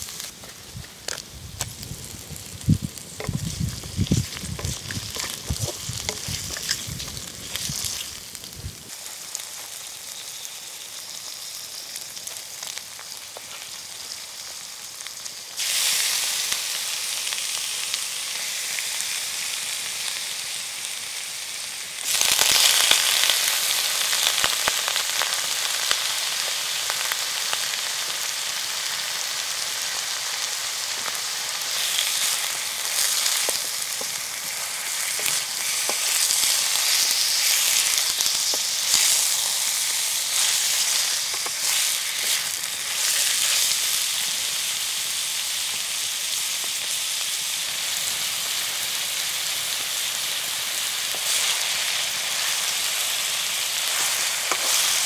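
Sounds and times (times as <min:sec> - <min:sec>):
meat sizzling in hot oil: 0:00.0 - 0:55.0.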